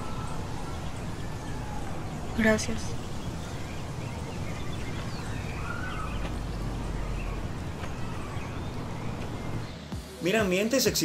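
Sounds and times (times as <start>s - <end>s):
faint bird chirps: 0.0s - 9.9s
outdoor background noise: 0.0s - 11.0s.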